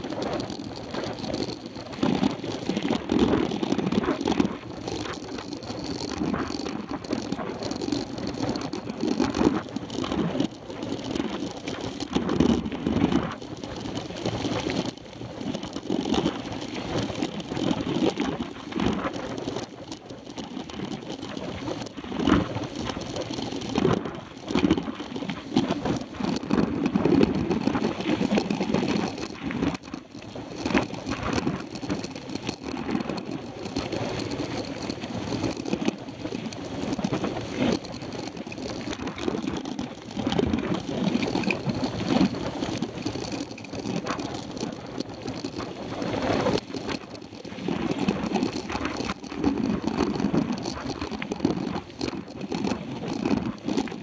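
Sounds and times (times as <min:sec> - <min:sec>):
bike rattling over bumps: 0:00.0 - 0:54.0.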